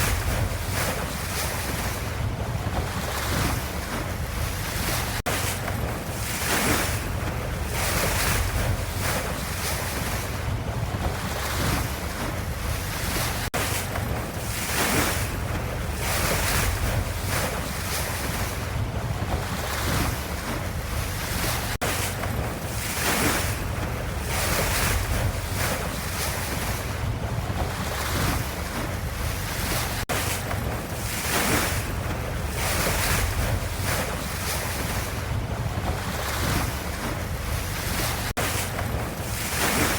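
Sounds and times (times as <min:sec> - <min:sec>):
ocean waves rumbling: 0:00.0 - 0:39.9.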